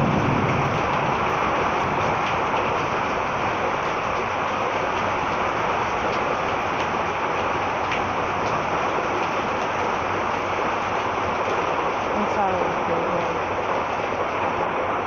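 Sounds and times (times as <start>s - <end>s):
heavy rain hiss: 0.0s - 15.0s
raindrops ticking close by: 0.0s - 15.0s.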